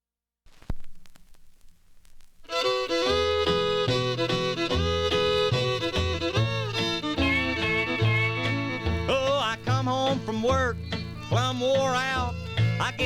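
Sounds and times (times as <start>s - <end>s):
record surface crackle: 0.4s - 13.0s
country band playing: 2.5s - 13.0s.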